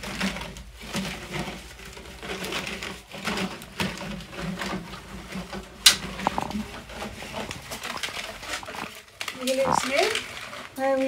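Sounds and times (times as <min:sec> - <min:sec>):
tube scraping against stone: 0:00.0 - 0:10.8.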